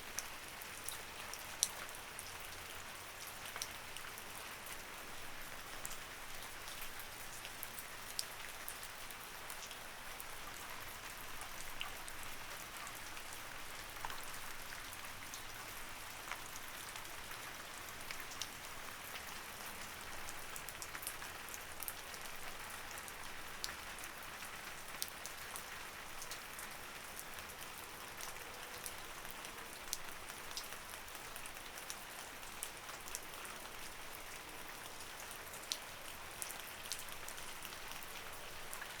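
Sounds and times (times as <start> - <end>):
raindrops ticking on a surface: 0.1 - 39.0.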